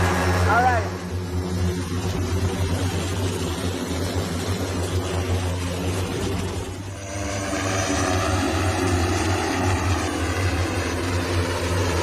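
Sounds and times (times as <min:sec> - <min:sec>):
electric propellers humming: 0:00.0 - 0:12.0.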